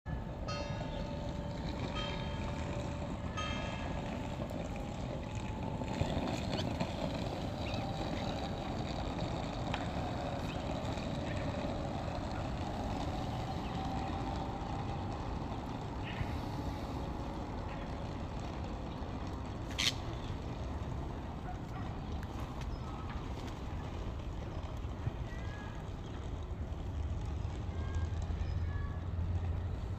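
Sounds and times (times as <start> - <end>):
low rumble of engine or traffic: 0.1 - 29.9.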